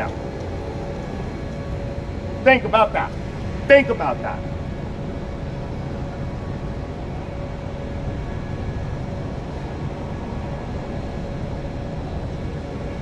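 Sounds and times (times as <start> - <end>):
faint steady hum: 0.0 - 13.0
low background rumble: 0.0 - 13.0.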